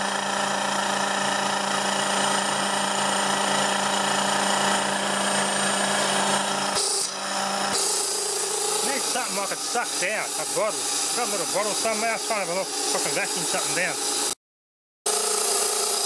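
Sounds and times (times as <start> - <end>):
compressor humming: 0.0 - 14.4.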